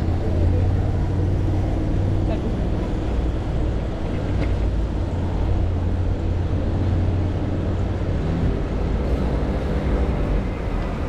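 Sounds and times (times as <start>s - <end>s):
bicycle riding rumble: 0.0s - 11.0s
cars passing: 0.0s - 11.0s.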